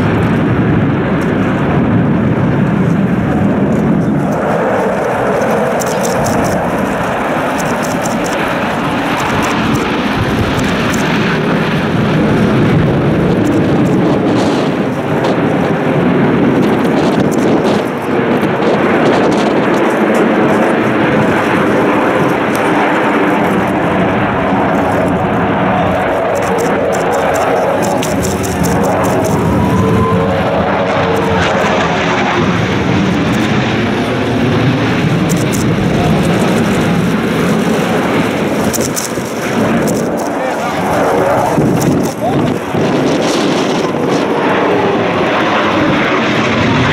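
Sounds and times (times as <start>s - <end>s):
jet engine rumble: 0.0s - 46.9s.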